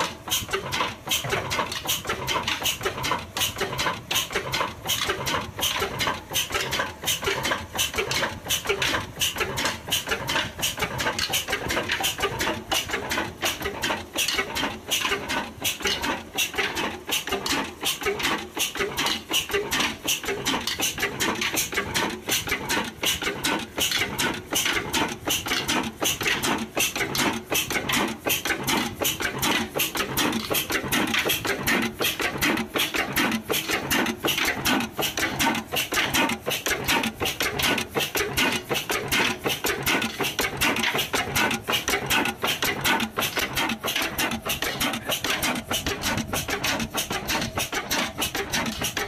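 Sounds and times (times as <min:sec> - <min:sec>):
diesel engine clattering: 0:00.0 - 0:49.0.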